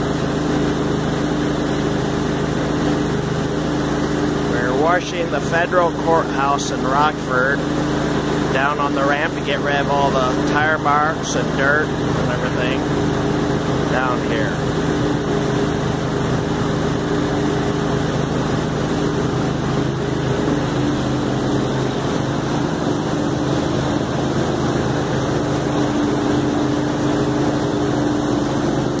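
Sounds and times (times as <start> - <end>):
pressure washer engine running: 0.0 - 29.0.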